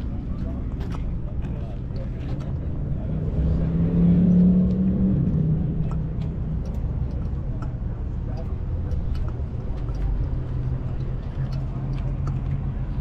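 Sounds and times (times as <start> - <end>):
car engine revving: 2.2 - 13.0.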